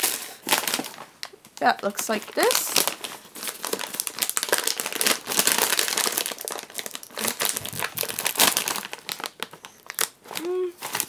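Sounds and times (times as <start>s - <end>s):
plastic snack bag crinkling: 0.0s - 11.0s.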